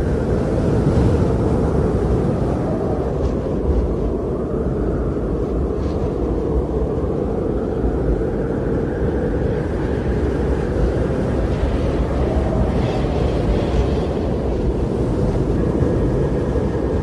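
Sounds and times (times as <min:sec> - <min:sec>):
strong blizzard wind: 0:00.0 - 0:17.0.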